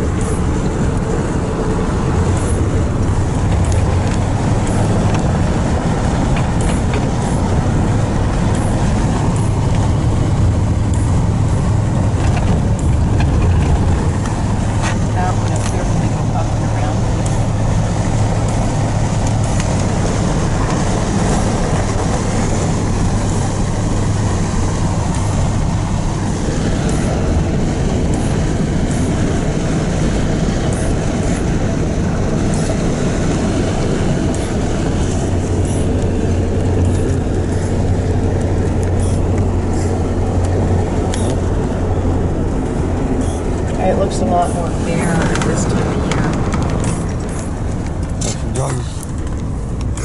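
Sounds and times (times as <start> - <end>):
road rumble: 0.0 - 50.0
truck engine hum: 0.0 - 50.0.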